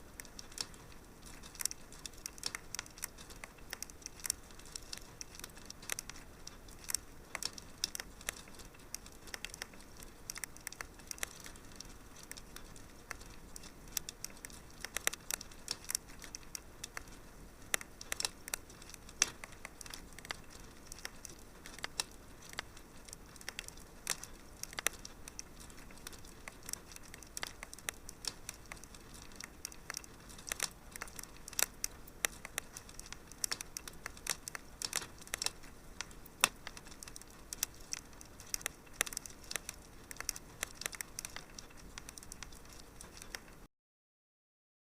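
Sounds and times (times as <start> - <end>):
wood fire crackling: 0.0 - 43.7.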